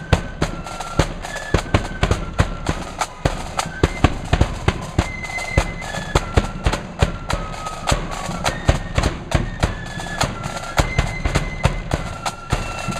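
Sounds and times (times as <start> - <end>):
flutes playing a tune: 0.0 - 12.9
snare drum strokes: 0.0 - 12.9.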